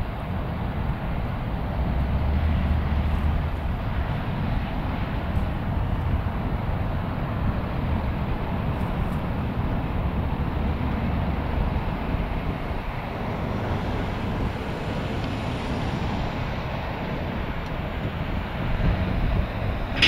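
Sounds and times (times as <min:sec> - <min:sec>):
jet airliner taking off: 0:00.8 - 0:20.0.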